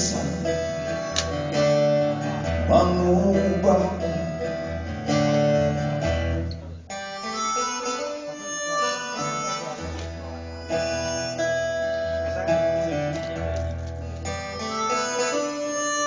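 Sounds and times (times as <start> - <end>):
harmonica melody: 0.0 - 16.0
strummed acoustic guitar: 0.0 - 16.0.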